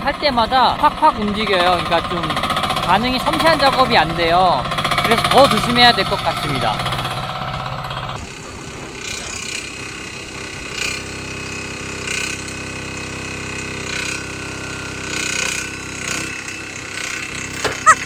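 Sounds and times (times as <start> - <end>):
mini excavator engine running: 0.0 - 18.0.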